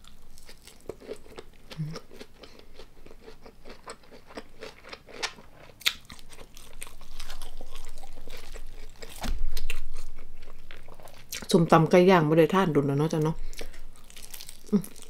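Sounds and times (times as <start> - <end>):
person crunching and chewing: 0.0 - 11.5, 13.4 - 15.0.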